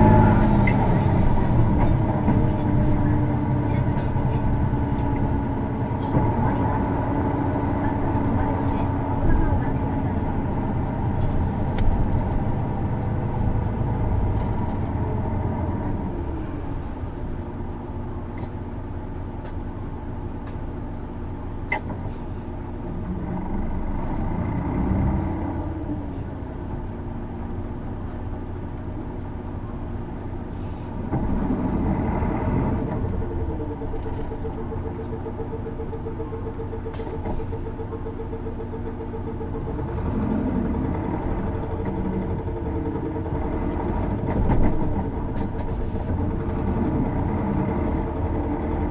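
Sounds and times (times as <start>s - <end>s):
bus diesel engine revving: 0.0s - 19.6s, 20.4s - 28.2s, 30.4s - 48.9s.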